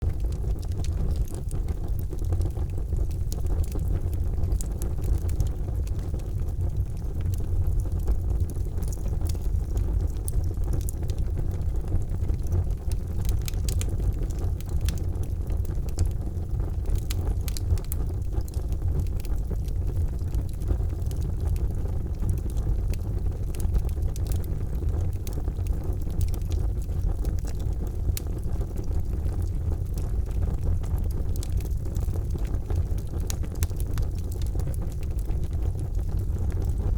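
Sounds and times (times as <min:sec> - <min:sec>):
fire crackling and popping: 0:00.0 - 0:36.9
fire rumbling: 0:00.0 - 0:36.9.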